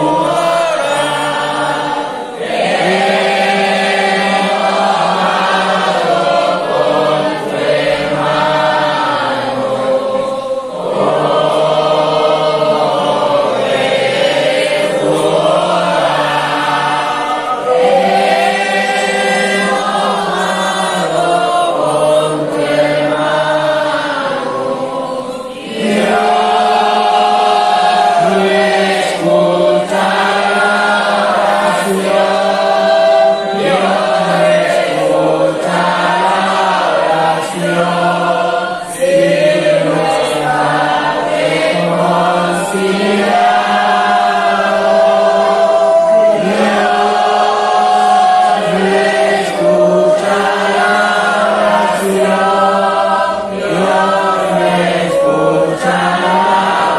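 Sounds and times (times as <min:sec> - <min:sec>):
congregation singing a hymn: 0:00.0 - 0:56.9.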